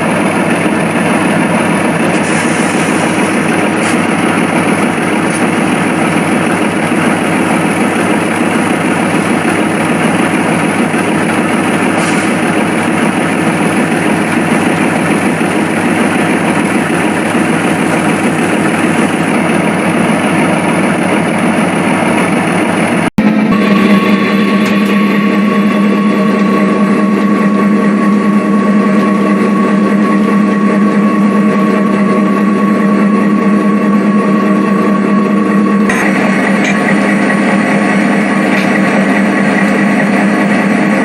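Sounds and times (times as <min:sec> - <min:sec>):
diesel locomotive engine idling: 0:00.0 - 0:41.0.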